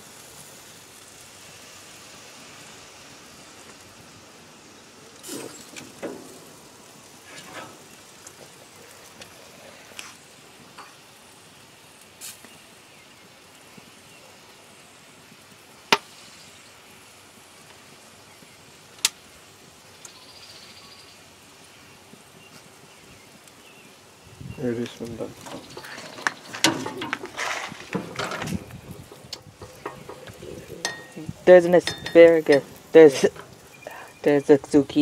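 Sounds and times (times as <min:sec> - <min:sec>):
pork chops sizzling on grill: 0:00.0 - 0:35.0.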